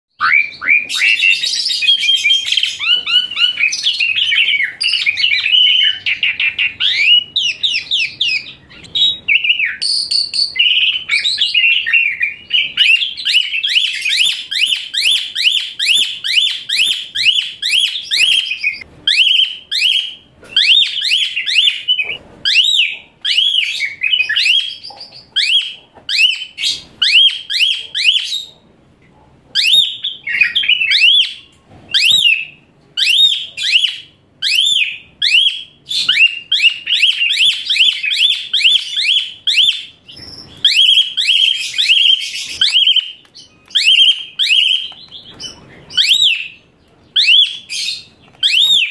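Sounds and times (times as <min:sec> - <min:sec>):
starling singing shrill song: 0:00.1 - 0:28.5, 0:29.6 - 0:48.9.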